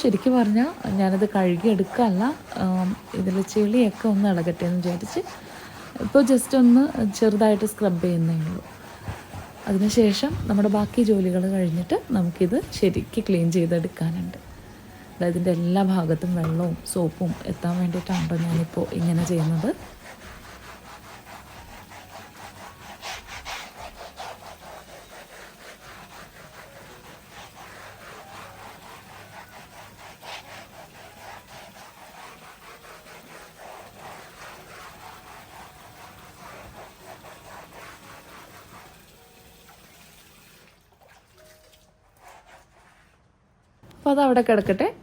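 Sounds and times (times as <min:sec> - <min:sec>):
scrubbing brush scraping mat: 0:00.0 - 0:43.3.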